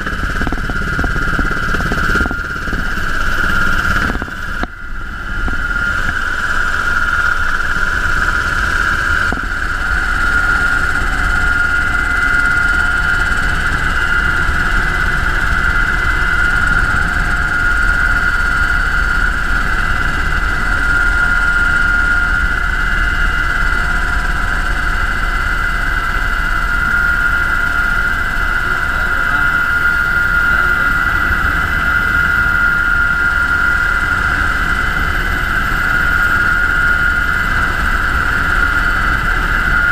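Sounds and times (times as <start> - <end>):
helicopter engines and rotor: 0.0 - 39.9.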